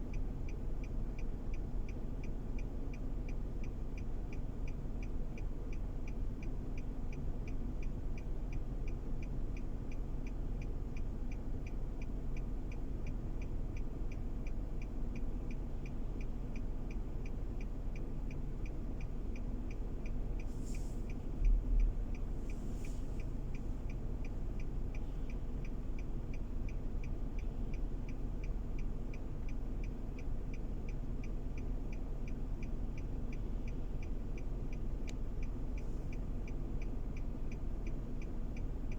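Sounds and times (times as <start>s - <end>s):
faint regular ticking: 0.0s - 38.9s
road and engine rumble: 0.0s - 38.9s.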